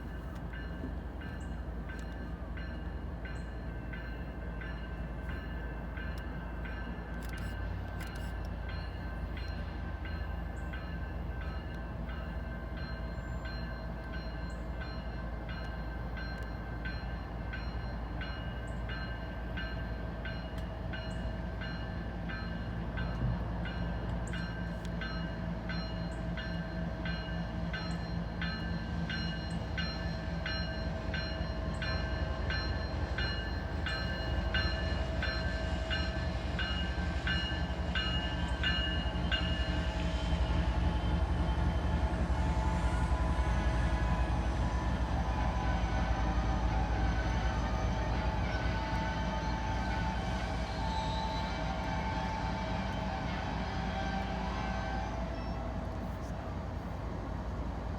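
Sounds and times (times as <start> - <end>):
diesel locomotive rumbling: 0.0 - 57.9.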